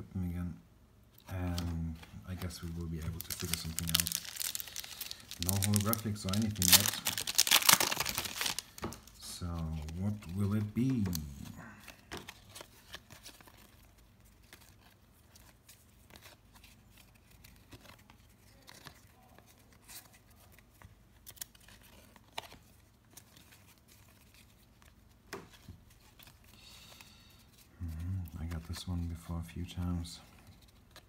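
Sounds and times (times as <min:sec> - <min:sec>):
cards clicking and rustling: 0:01.4 - 0:26.5.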